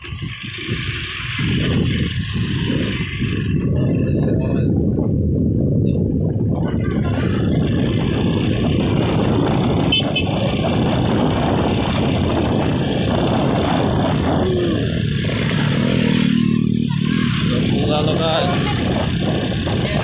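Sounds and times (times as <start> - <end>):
vehicle rumbling on road: 0.0 - 20.0
wind noise on microphone: 0.0 - 20.0.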